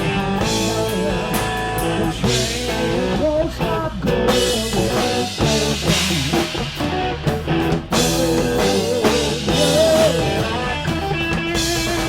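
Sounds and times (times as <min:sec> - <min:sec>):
bass guitar: 0:00.0 - 0:12.0
drum kit: 0:00.0 - 0:12.0
electric guitar: 0:00.0 - 0:12.0.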